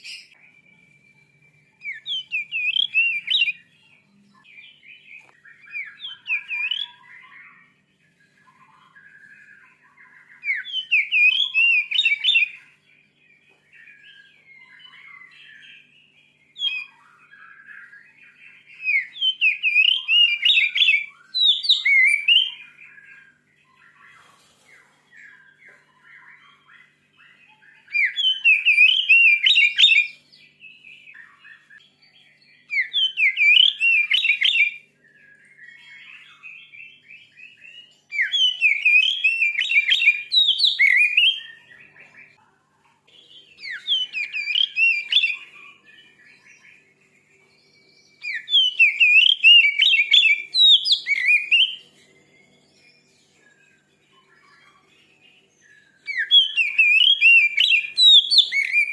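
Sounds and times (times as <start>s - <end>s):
bird twittering: 0.0s - 42.4s, 43.1s - 58.9s
bird whistling song: 0.0s - 42.4s, 43.1s - 58.9s.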